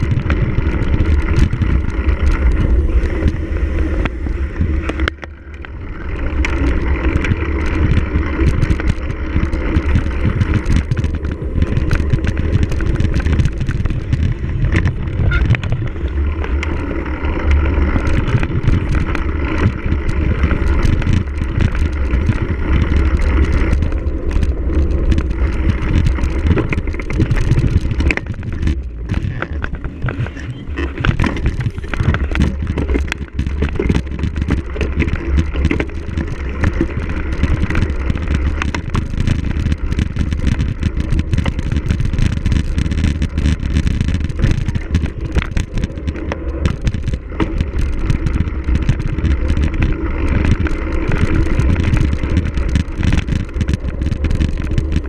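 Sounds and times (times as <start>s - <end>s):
bike chain and frame rattling: 0.0s - 55.0s
tyre noise: 0.0s - 55.0s
wind rumble on microphone: 0.0s - 55.0s.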